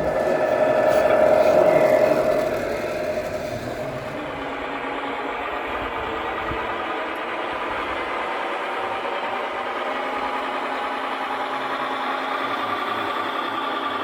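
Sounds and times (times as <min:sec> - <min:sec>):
steady low hum: 0:00.0 - 0:11.6
diesel idle through small speaker: 0:00.0 - 0:14.0.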